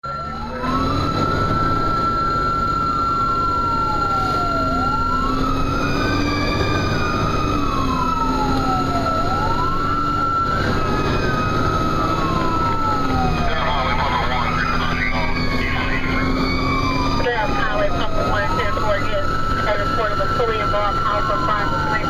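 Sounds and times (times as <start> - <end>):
fire engine siren wailing: 0.0 - 22.0
truck engine and road noise: 0.0 - 22.0.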